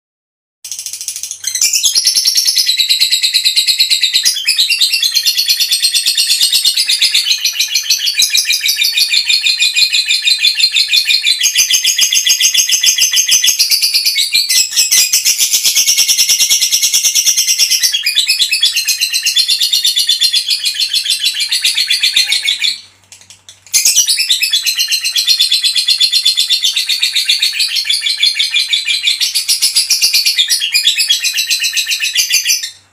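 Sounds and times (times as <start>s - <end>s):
lovebird chattering trill: 0.7s - 32.8s.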